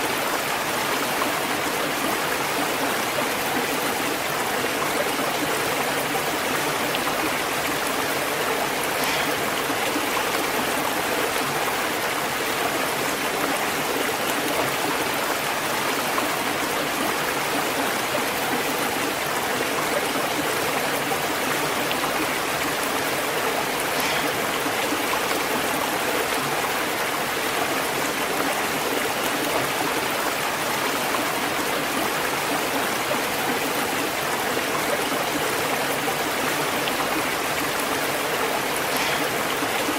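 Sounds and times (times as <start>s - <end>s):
waterfall and rushing stream: 0.0s - 39.9s.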